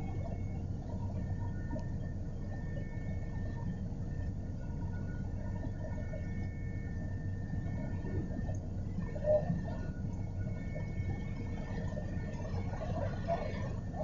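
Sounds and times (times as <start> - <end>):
faint whining tones: 0.0 - 14.0
helicopter cabin drone: 0.0 - 14.0.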